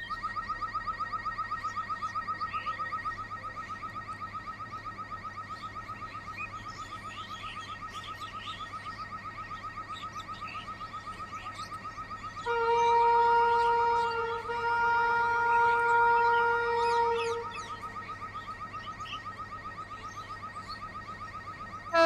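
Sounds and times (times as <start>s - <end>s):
rapid electronic warning beeps: 0.0s - 22.0s.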